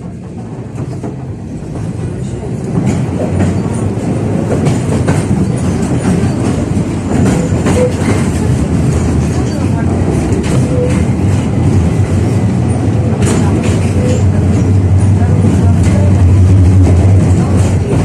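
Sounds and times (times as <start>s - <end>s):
tram running noise: 0.0s - 18.0s
wheels clacking over rail joints: 0.0s - 18.0s.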